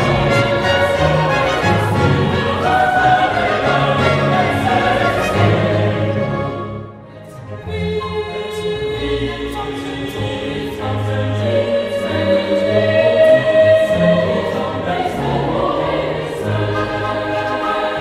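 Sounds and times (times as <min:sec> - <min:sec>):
choir singing held notes: 0:00.0 - 0:18.0.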